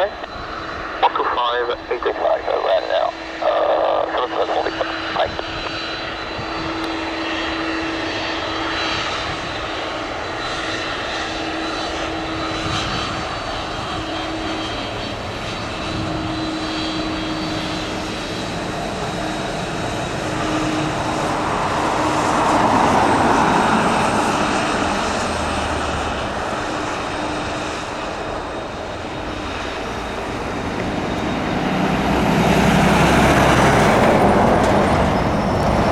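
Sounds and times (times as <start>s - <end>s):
jet engines whining and roaring: 0.0s - 35.9s.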